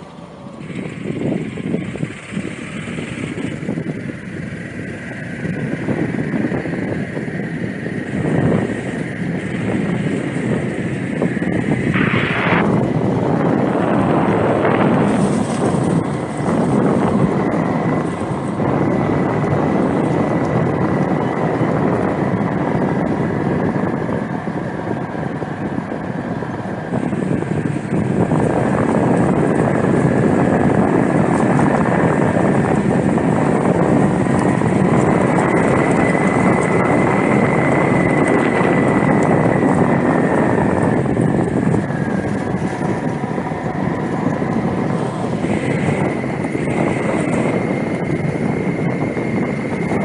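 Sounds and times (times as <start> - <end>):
faint steady whine: 0.0 - 50.0
moving vehicle rushing noise: 0.0 - 50.0
wind on microphone: 0.0 - 50.0.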